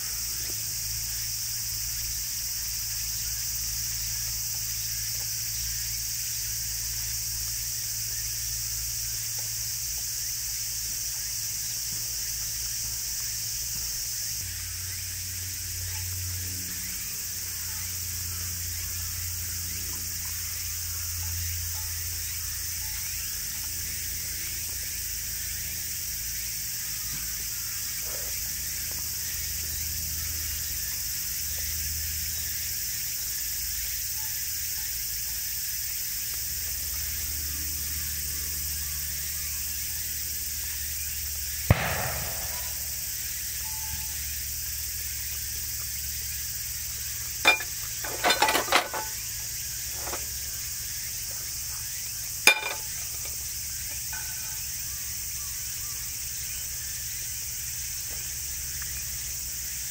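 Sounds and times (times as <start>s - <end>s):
insect chirring: 0.0s - 59.9s.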